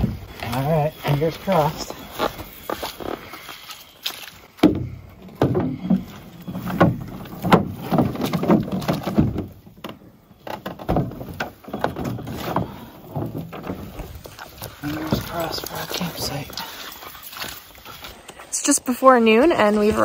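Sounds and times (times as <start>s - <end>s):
canoe knocking and thudding: 0.0s - 3.4s, 4.6s - 18.1s
paddles bumping against hull: 0.0s - 18.4s.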